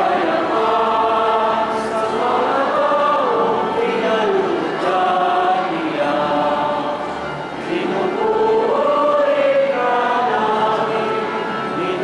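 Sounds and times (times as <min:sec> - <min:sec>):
choir singing a hymn: 0:00.0 - 0:12.0.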